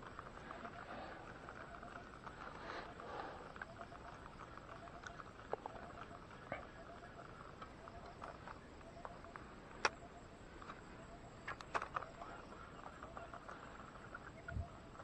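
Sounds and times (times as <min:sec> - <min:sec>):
small animals chirping: 0:00.0 - 0:15.0.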